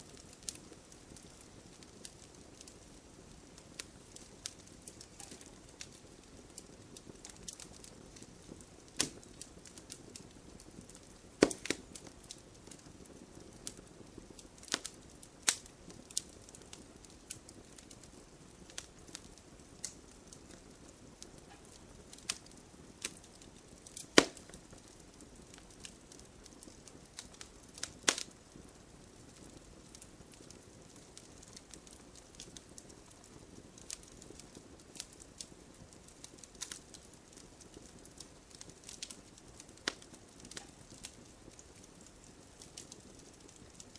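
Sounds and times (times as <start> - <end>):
low steady hiss: 0.0 - 43.9
wood fire crackling and popping: 0.0 - 43.9.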